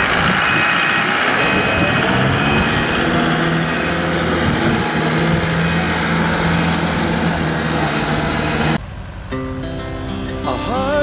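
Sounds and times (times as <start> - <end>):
broad mechanical noise: 0.0 - 10.0
diesel engines running: 0.0 - 11.0.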